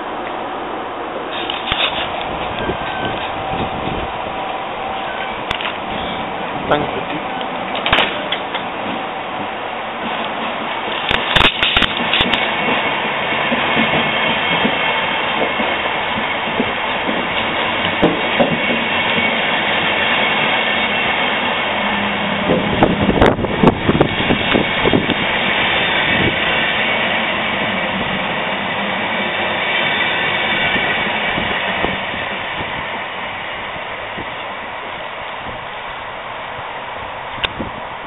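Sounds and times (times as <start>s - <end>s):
train wheels rushing on rails: 0.0s - 38.0s.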